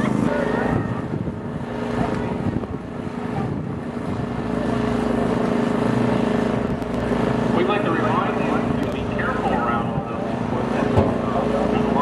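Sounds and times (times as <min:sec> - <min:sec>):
aircraft engine humming: 0:00.0 - 0:12.0.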